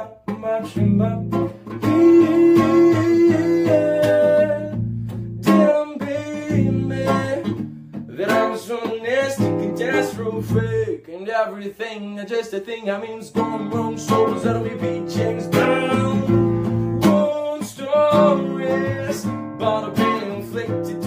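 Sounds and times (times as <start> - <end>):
man scat-singing: 0.0 - 4.8, 5.5 - 21.0
classical guitar strumming: 0.0 - 11.0, 13.1 - 21.0.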